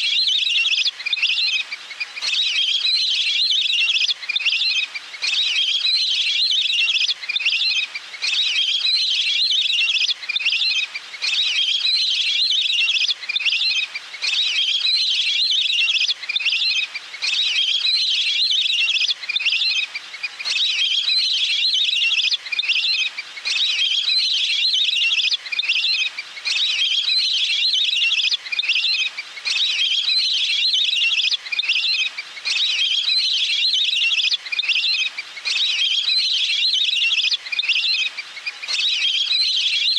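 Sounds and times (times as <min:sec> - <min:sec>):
water bird trill call: 0:02.2 - 0:39.9.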